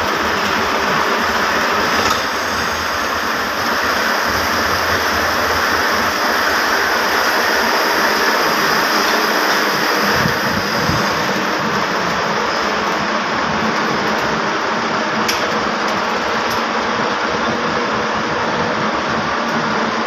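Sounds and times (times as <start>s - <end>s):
textile machine running: 0.0s - 20.0s.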